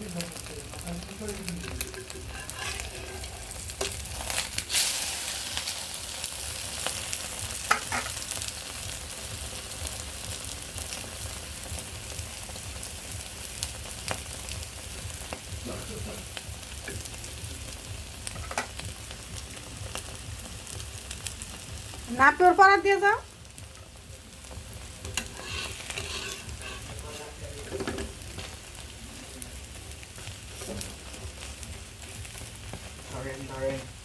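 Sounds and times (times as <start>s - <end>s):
eggs sizzling in a pan: 0.0s - 34.0s.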